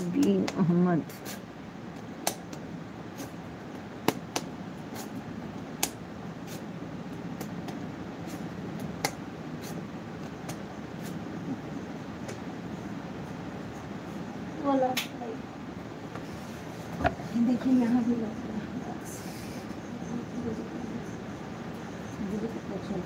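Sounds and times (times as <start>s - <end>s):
room hum: 0.0s - 23.0s.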